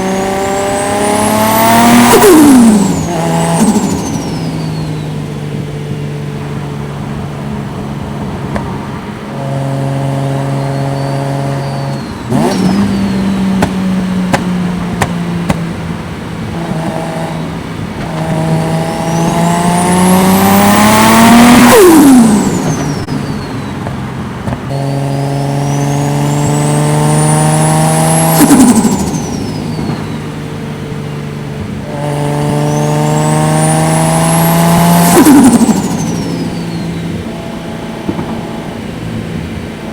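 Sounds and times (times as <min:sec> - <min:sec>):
turbocharged car engine revving: 0:00.0 - 0:39.9.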